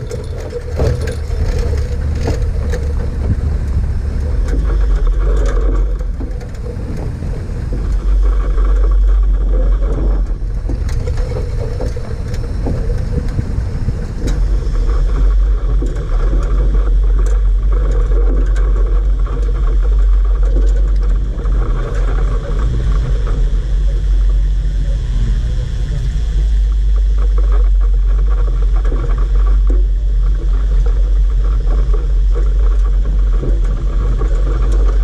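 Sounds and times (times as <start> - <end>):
small knocks and rattles: 0.0 - 35.0
vehicle rumbling over rough rock: 0.0 - 35.0.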